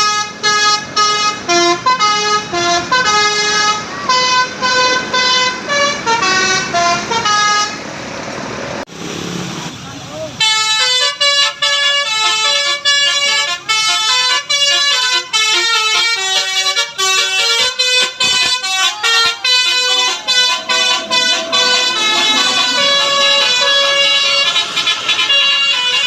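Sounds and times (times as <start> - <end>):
musical bus air horn melody: 0.0 - 7.8, 10.4 - 26.0.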